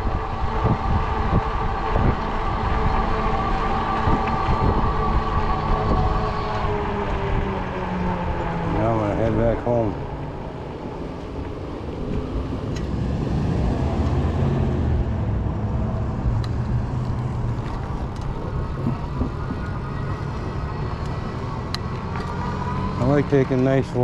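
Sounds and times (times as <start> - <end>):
fat tyres rolling: 0.0 - 24.0
wind rumbling on microphone: 0.0 - 24.0.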